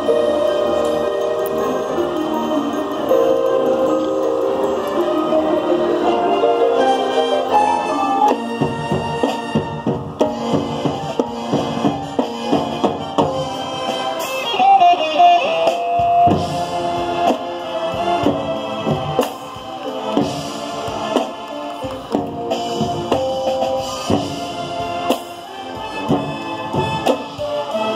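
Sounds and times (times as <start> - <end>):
marching band playing: 0.0 - 27.9.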